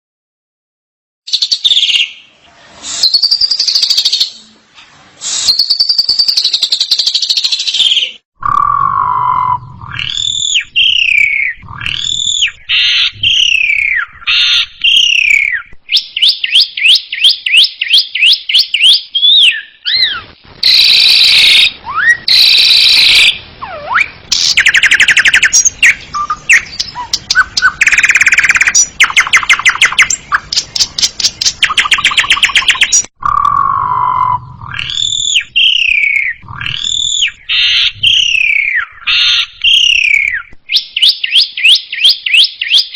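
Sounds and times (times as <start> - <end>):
starling singing: 5.4 - 42.9.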